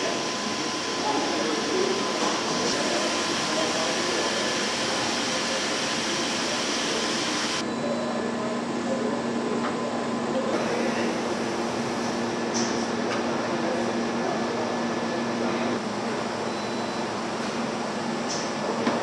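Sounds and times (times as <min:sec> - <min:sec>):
factory machinery hum: 0:00.0 - 0:19.0.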